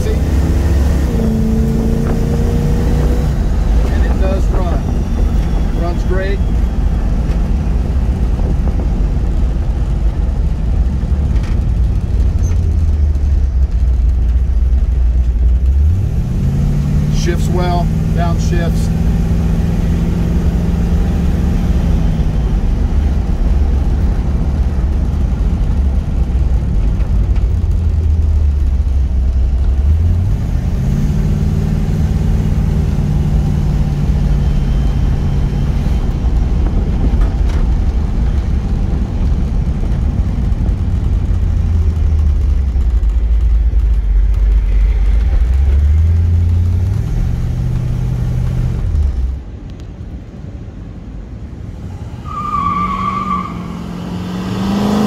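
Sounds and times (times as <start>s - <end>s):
car engine accelerating from inside cabin: 0.0s - 49.4s, 51.7s - 55.0s.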